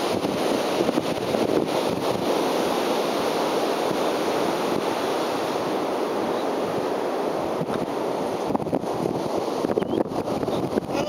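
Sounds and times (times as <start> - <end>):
ocean surf rushing: 0.0 - 11.0
wind on microphone: 0.0 - 11.0.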